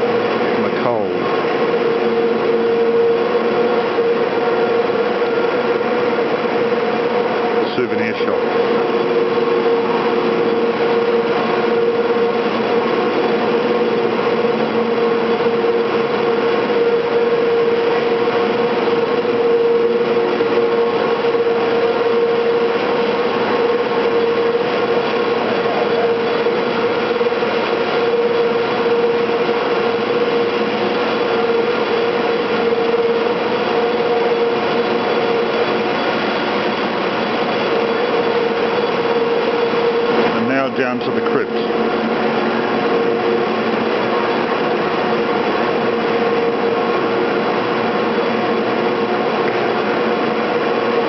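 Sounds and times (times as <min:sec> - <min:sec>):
constant humming tone: 0:00.0 - 0:51.0
loud machine drone: 0:00.0 - 0:51.0.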